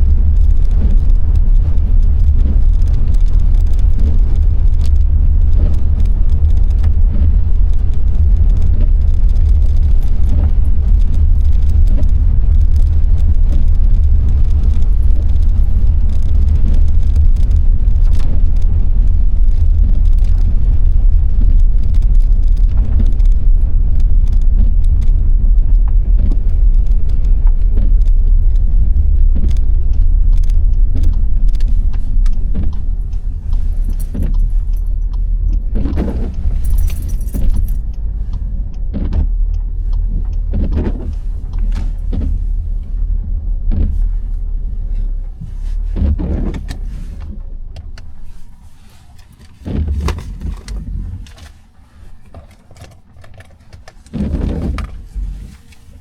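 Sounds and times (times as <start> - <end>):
engine and tyres rumbling: 0.0 - 56.0
rain ticking on car: 0.0 - 56.0.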